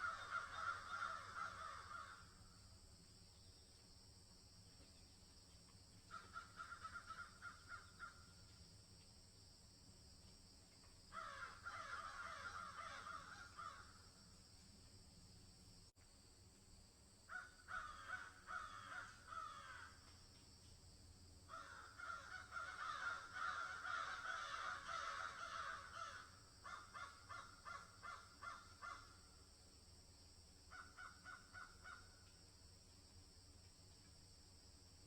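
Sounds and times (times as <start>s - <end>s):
steady high-pitched hiss: 0.0s - 35.0s.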